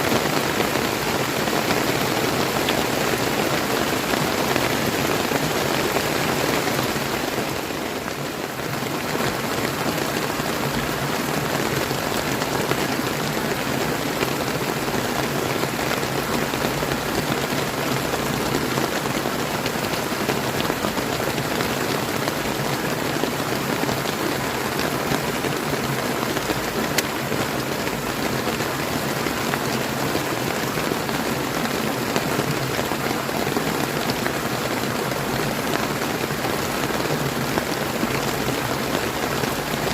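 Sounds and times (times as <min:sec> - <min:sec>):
flowing river: 0:00.0 - 0:39.9
steady rain falling: 0:00.0 - 0:39.9.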